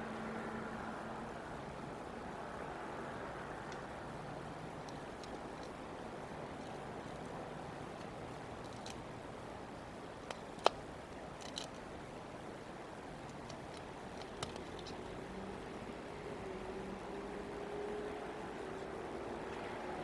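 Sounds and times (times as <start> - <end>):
background hiss: 0.0 - 20.0.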